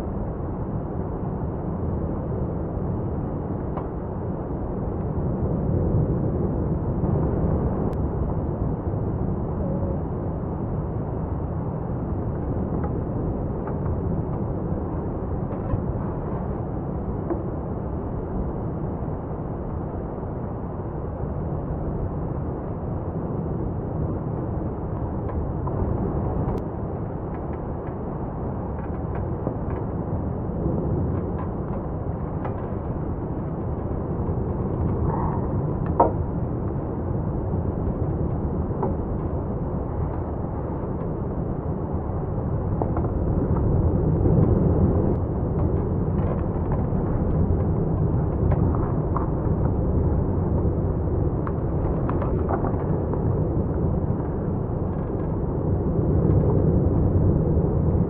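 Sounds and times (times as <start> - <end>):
low rumble of volcanic eruption: 0.0 - 58.0.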